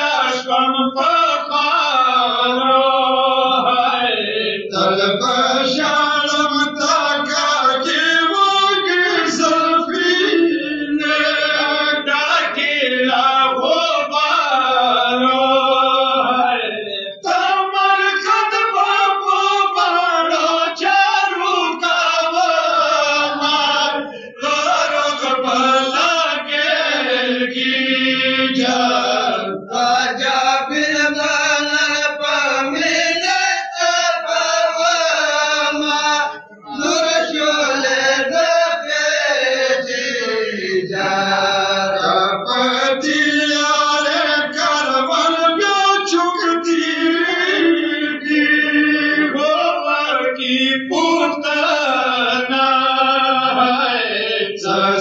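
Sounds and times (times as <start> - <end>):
men chanting a lament: 0.0 - 55.0.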